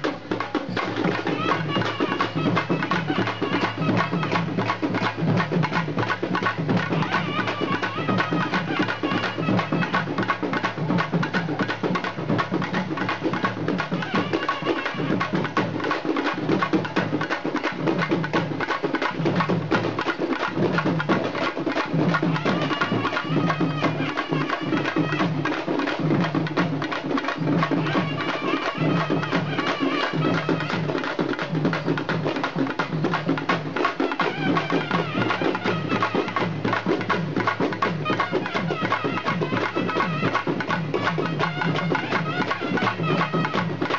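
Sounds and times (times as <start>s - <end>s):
fast dense drumming: 0.0s - 43.9s.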